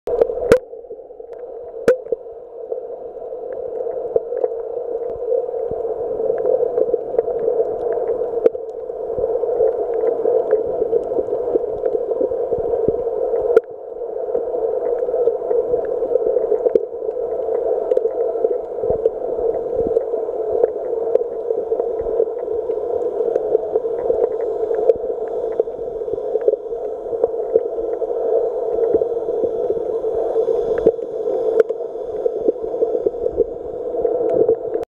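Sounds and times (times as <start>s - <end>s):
muffled underwater rush: 0.1s - 34.8s
small clicks and crackles: 3.2s - 30.0s, 30.7s - 34.8s.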